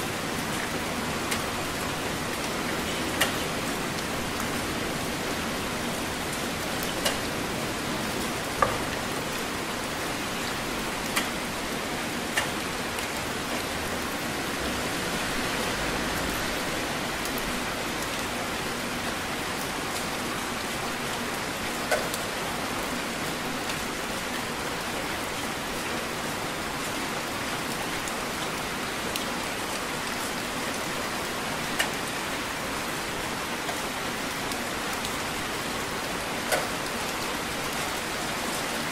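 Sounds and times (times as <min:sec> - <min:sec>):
heavy rain falling: 0:00.0 - 0:38.9
sharp raindrops striking: 0:00.0 - 0:38.9.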